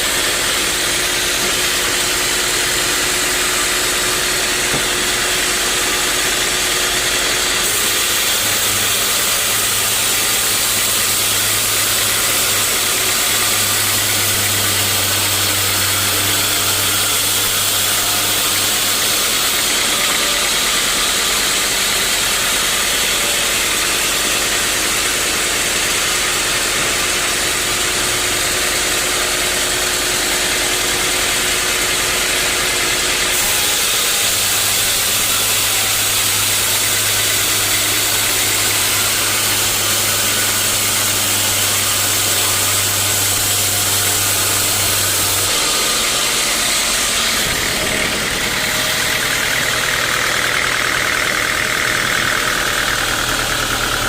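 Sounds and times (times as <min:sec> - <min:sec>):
sawmill saw hissing: 0:00.0 - 0:54.0.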